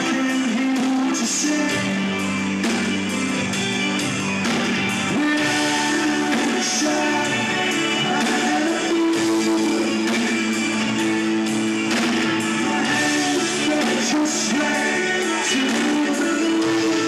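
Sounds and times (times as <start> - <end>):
electric guitar chords: 0.0 - 17.0
live rock band playing: 0.0 - 17.0.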